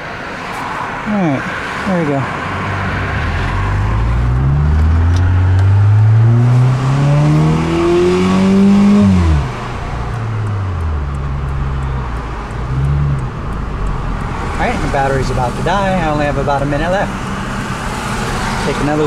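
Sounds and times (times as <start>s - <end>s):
car engine revving: 1.0s - 19.0s.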